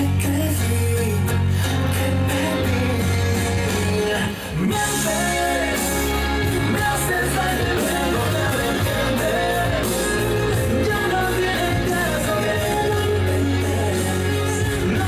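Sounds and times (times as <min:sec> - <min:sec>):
person singing with band: 0:00.0 - 0:15.0
steady bass line: 0:00.0 - 0:15.0.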